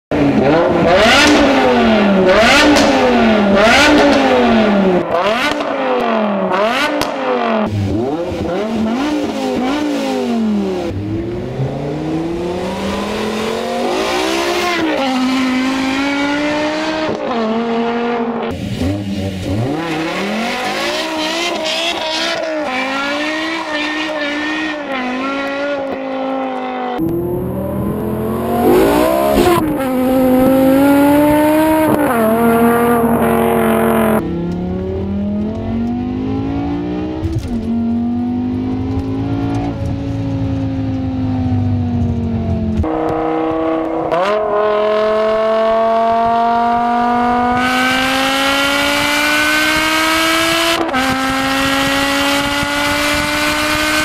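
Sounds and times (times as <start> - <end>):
car accelerating hard: 0.1 - 54.0
car engine revving: 0.1 - 54.0.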